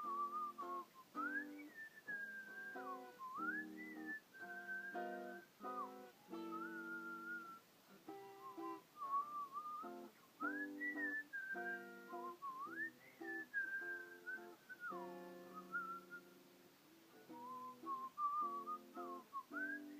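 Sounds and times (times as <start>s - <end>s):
person whistling a tune: 0.0s - 16.3s, 17.3s - 19.9s.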